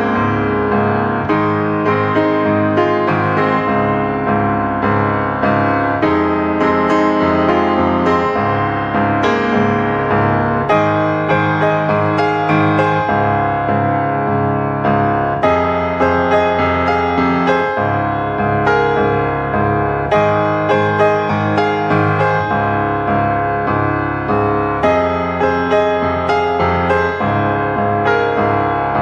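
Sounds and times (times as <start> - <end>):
gentle piano melody: 0.0 - 29.0.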